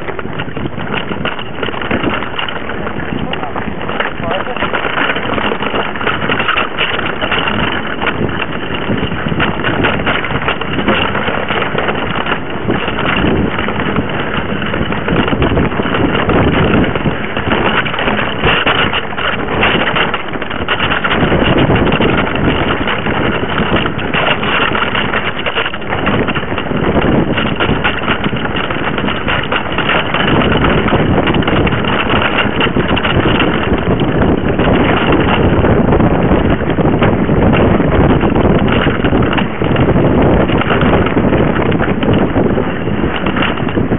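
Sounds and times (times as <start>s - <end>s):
bike rattling: 0.0s - 43.9s
tyre noise on trail: 0.0s - 43.9s
wind on microphone: 0.0s - 43.9s.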